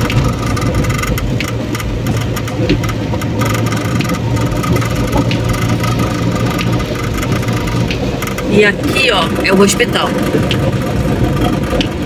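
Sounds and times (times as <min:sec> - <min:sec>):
car engine hum: 0:00.0 - 0:12.0.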